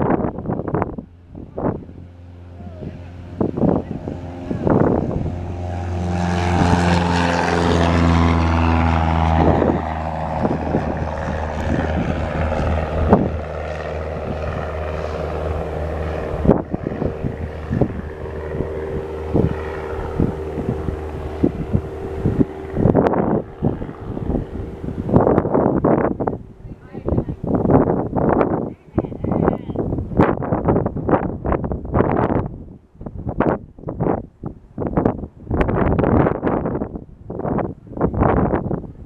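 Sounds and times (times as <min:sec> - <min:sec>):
turboprop engines droning: 0:00.0 - 0:39.0
wind buffeting microphone: 0:00.0 - 0:39.0.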